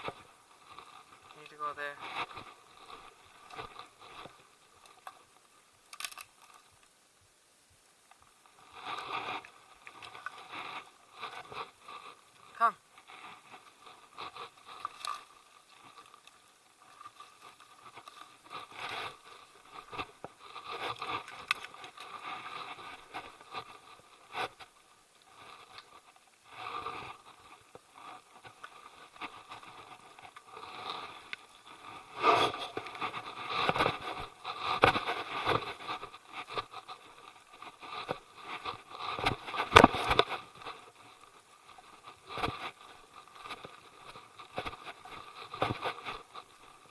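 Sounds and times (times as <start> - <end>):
hiker footsteps scraping and crunching: 0.0 - 6.9, 8.1 - 46.9.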